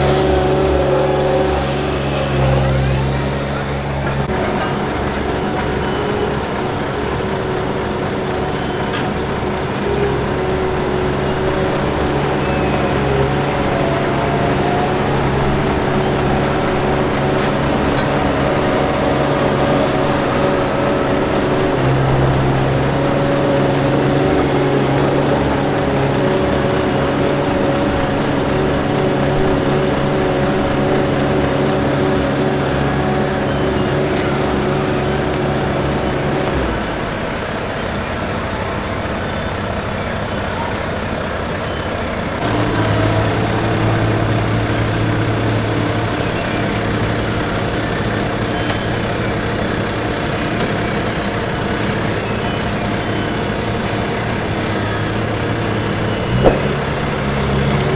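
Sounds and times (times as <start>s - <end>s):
heavy machinery diesel engine: 0.0s - 57.9s.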